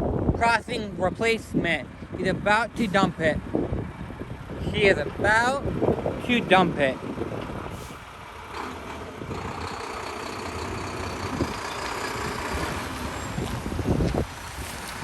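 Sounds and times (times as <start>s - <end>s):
truck engine idling: 0.4s - 15.0s.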